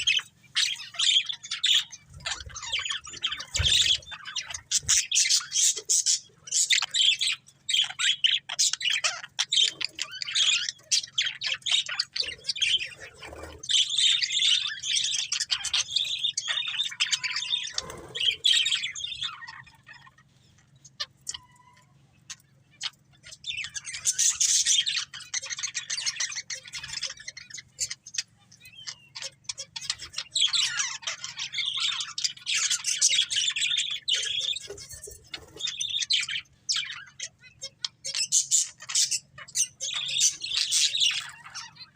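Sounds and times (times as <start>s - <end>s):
budgerigars chirping and chattering: 0.0s - 41.9s.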